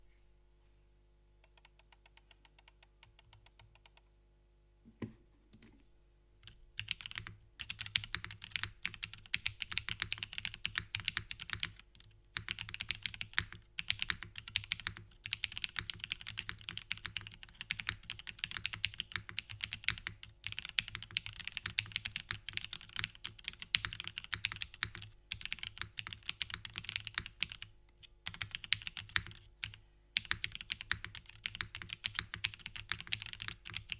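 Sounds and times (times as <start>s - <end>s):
mechanical keyboard typing: 1.4s - 4.0s, 6.4s - 33.9s.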